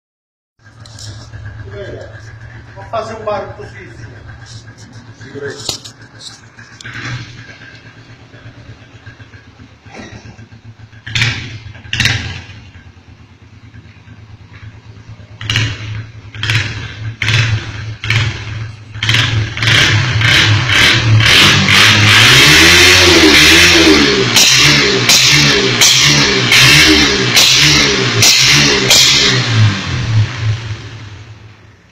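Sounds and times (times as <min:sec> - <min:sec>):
vehicle engine revving: 0:00.6 - 0:31.9.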